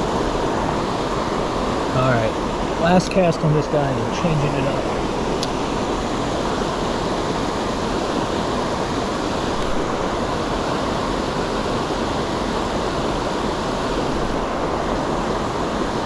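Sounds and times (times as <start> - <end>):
rushing creek water: 0.0 - 16.0.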